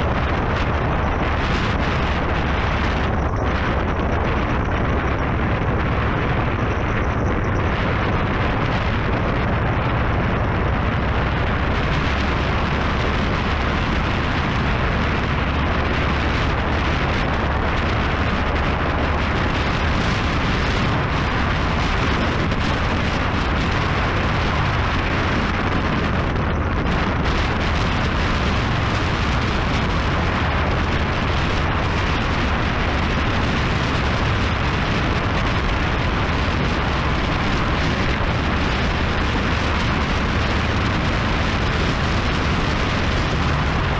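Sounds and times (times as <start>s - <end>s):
motorcycle engine rumble: 0.0s - 43.9s
wind roar on microphone: 0.0s - 43.9s.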